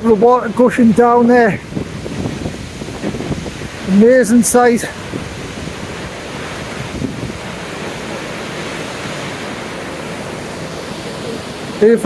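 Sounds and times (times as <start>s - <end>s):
waterfall gushing: 0.0s - 12.0s.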